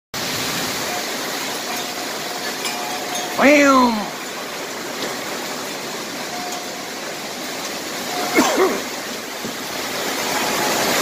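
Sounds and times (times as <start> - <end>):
heavy rain and hail: 0.2 - 11.0.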